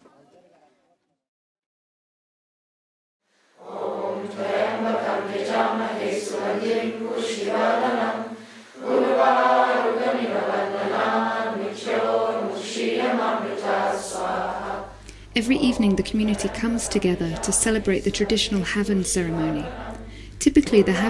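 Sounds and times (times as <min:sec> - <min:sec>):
group of voices chanting: 0:03.6 - 0:21.0.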